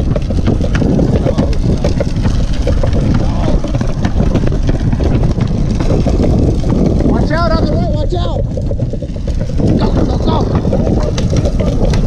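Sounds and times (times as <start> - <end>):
clicks and rattles: 0.0 - 12.0
small wheels rolling on concrete: 0.0 - 12.0
wind buffeting microphone: 0.0 - 12.0.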